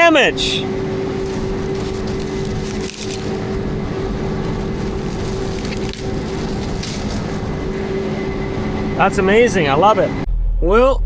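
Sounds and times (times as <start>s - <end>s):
heavy farm machinery running: 0.0s - 10.3s.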